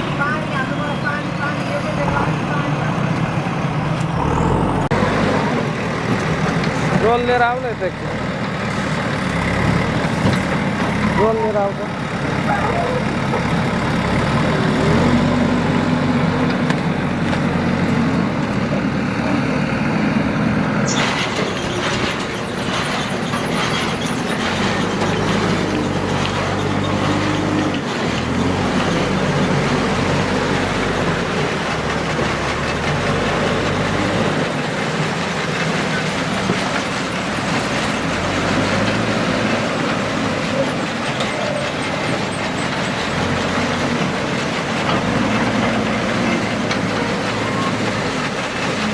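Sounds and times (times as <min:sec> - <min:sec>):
diesel engines working: 0:00.0 - 0:48.9.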